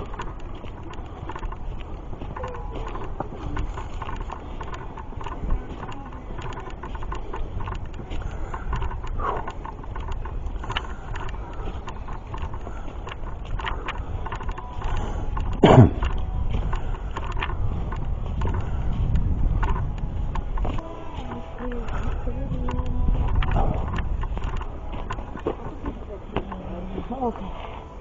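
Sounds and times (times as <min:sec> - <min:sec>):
microphone handling noise: 0:00.0 - 0:27.1
small stones knocking: 0:00.0 - 0:27.7
footsteps crunching on rocky trail: 0:00.0 - 0:28.0
wind rumble: 0:00.0 - 0:28.0.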